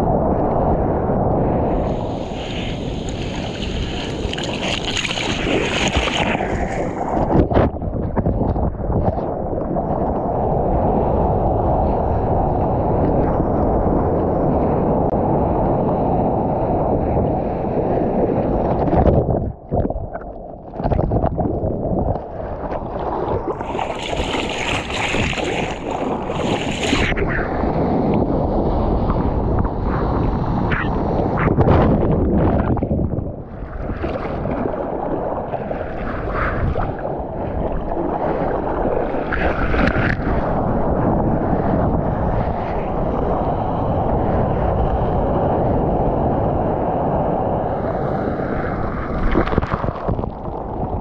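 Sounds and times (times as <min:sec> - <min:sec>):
wind buffeting microphone: 0:00.0 - 0:51.0
surf rushing and splashing: 0:01.4 - 0:14.0, 0:17.5 - 0:45.7, 0:47.6 - 0:51.0.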